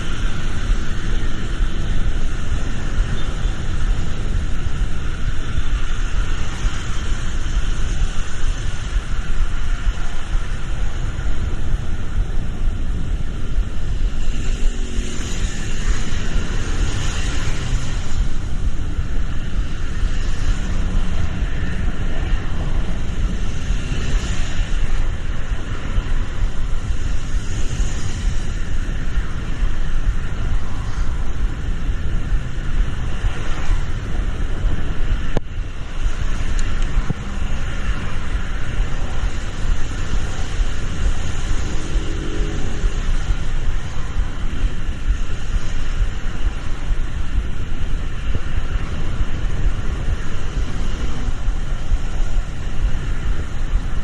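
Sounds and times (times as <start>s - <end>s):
road traffic rumble and hiss: 0.0s - 54.0s
tyres on a wet road: 0.0s - 54.0s.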